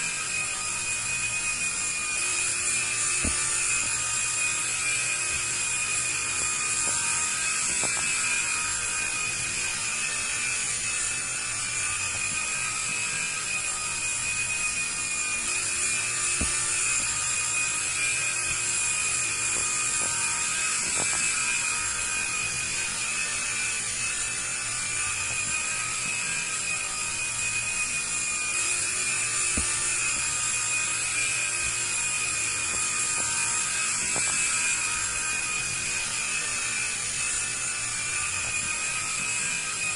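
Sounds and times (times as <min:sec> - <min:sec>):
toy helicopter motor whine: 0:00.0 - 0:39.9.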